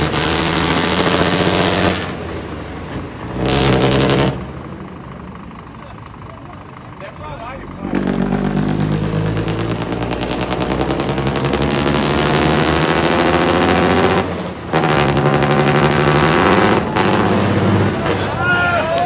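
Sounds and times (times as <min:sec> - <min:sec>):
exhaust crackling rattle: 0:00.0 - 0:18.4
diesel truck engine revving: 0:00.0 - 0:19.0.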